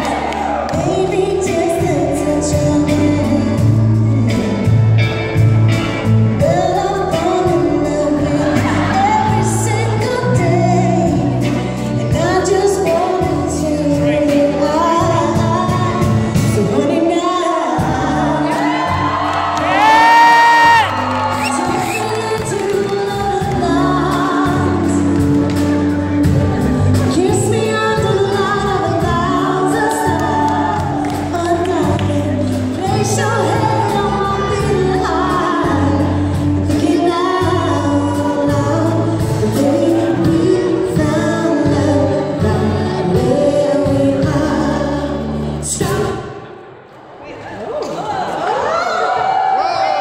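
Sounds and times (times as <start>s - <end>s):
song over loudspeakers: 0.0s - 47.2s.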